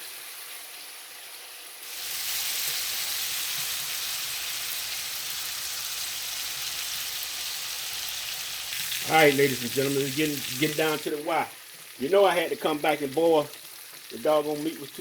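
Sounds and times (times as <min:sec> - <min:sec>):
steaks sizzling in a frying pan: 0:00.0 - 0:15.0.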